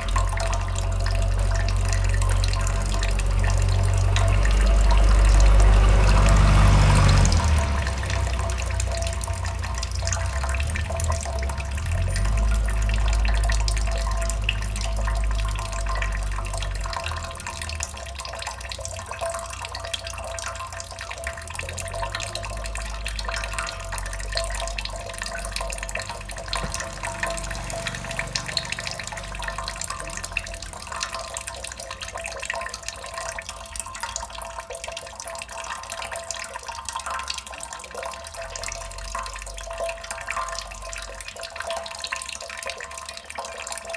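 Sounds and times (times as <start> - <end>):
water dripping and splashing: 0.0 - 43.9.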